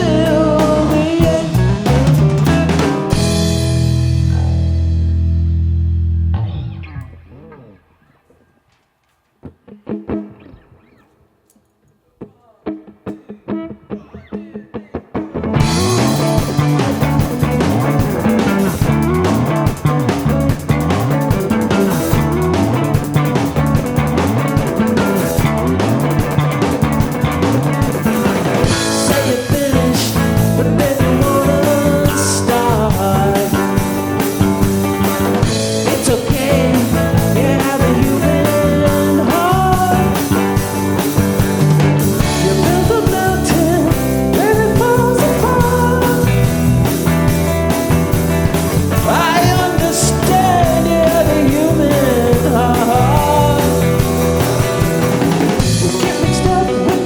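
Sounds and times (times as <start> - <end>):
drum kit: 0.0 - 7.7, 15.2 - 57.0
guitar: 0.0 - 57.0.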